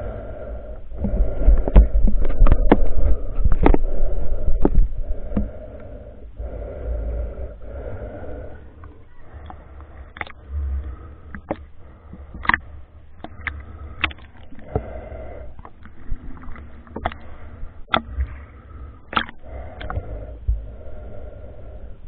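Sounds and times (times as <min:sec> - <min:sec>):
low rumble: 0:00.0 - 0:22.0
water sloshing and bubbling: 0:00.0 - 0:22.0.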